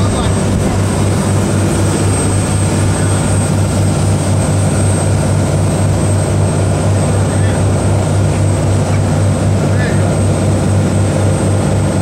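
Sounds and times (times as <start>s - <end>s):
boat engine droning: 0.0s - 12.0s
water rushing in wake: 0.0s - 12.0s.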